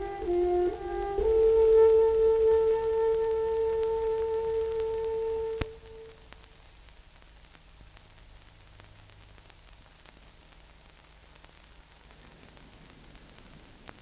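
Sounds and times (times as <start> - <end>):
recording hiss and hum: 0.0 - 14.0.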